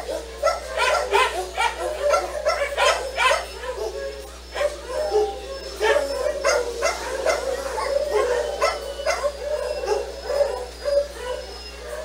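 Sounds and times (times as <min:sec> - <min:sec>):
dog barking and yipping: 0:00.0 - 0:12.0.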